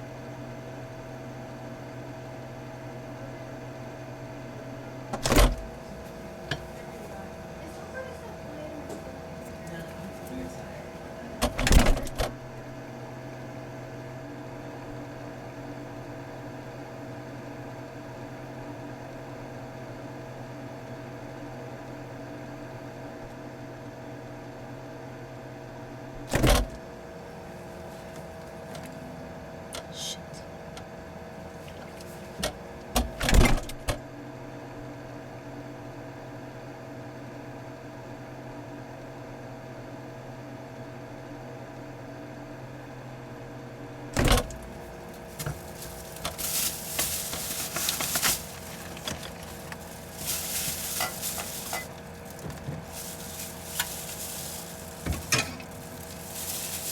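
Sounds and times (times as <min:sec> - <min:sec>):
refrigerator humming: 0:00.0 - 0:56.9.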